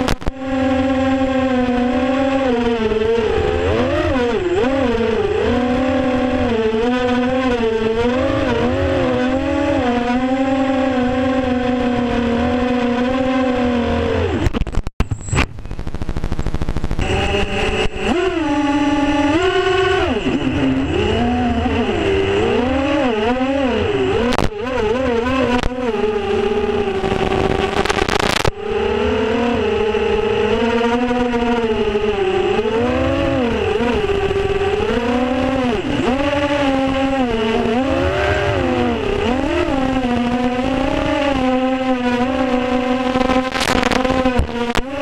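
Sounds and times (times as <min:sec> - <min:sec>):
drone motors whining: 0:00.0 - 0:45.0.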